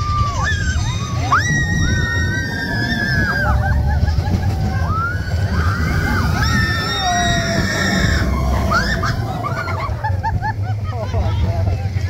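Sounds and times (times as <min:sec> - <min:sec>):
riders screaming and whooping: 0:00.0 - 0:11.7
roller coaster rumbling: 0:00.0 - 0:12.0.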